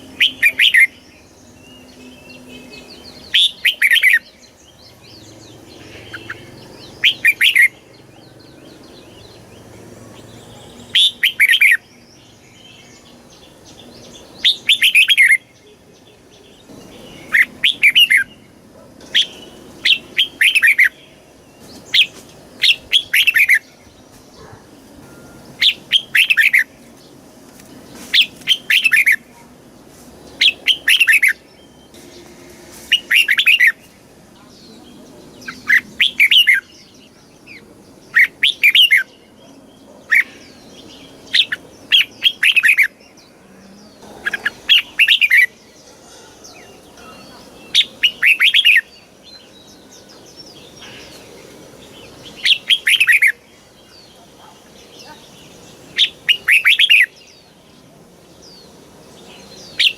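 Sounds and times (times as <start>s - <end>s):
bird singing bright phrases: 0.0s - 59.9s.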